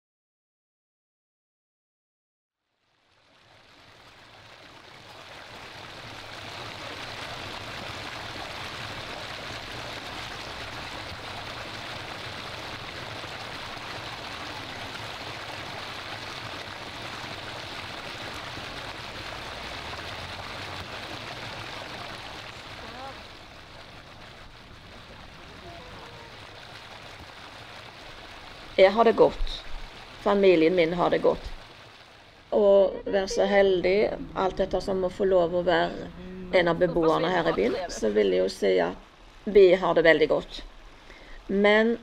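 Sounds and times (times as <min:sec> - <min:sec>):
fountain water splashing: 0:02.7 - 0:42.0.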